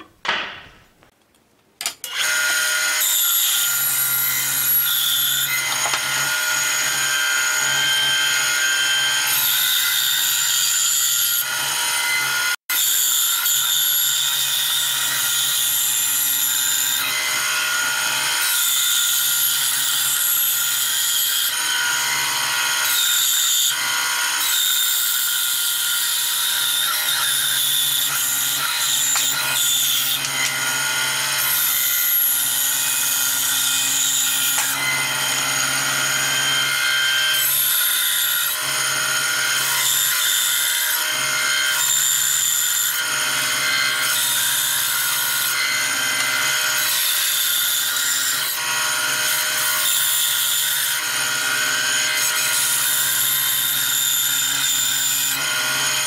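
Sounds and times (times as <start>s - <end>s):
saw blade cutting wood: 1.8s - 56.0s.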